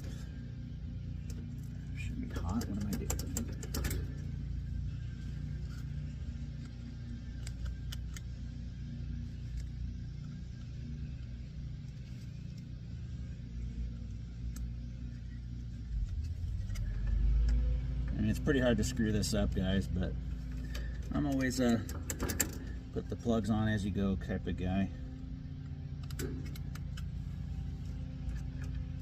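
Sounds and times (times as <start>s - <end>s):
low mechanical rumble: 0.0s - 29.0s.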